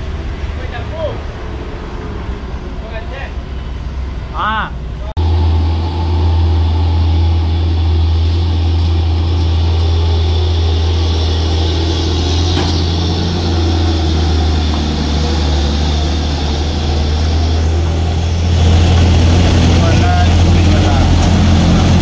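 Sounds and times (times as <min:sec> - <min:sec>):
truck diesel engine labouring: 0:00.0 - 0:22.0.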